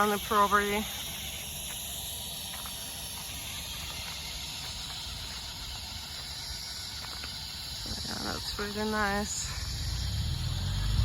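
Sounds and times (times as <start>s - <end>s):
drilling rig running: 0.0s - 11.0s.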